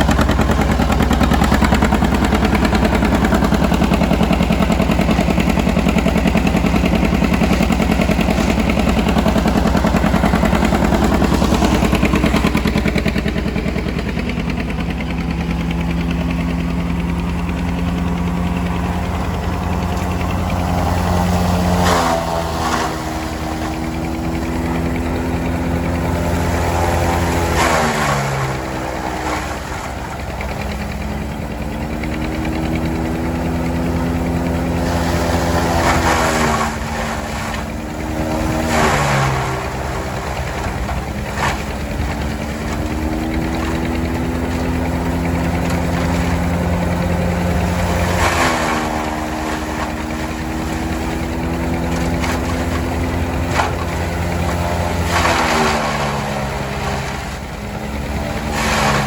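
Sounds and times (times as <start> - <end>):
tractor engine running hard: 0.0 - 59.0.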